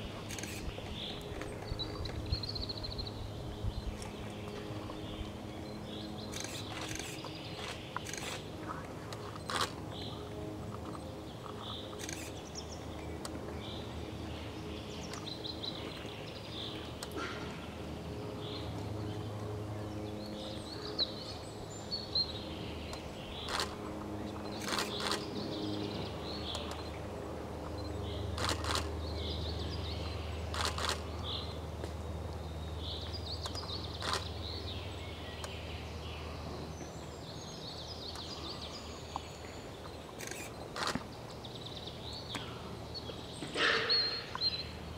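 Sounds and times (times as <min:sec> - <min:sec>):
low steady hum: 0:00.0 - 0:44.9
songbirds chirping: 0:00.0 - 0:44.9.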